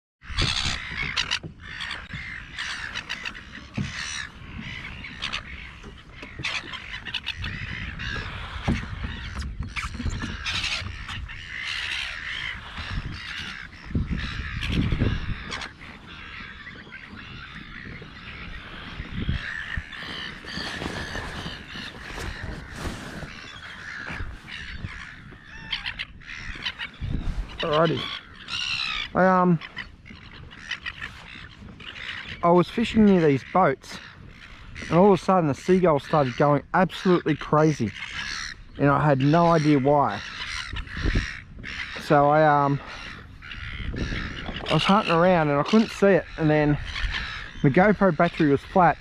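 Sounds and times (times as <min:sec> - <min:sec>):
seagulls calling: 0:00.2 - 0:49.0.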